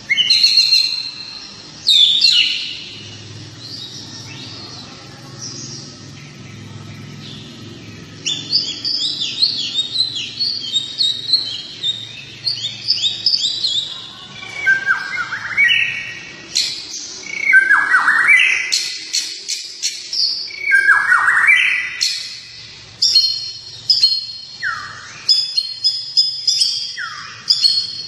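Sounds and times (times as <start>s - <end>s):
songbird chirping and whistling: 0.0s - 28.0s.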